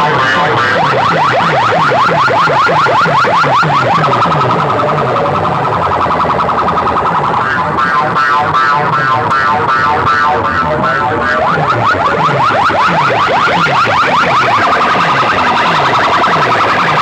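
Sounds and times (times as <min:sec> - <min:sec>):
repeating bass beat: 0:00.0 - 0:17.0
siren-like alarm effect: 0:00.0 - 0:17.0.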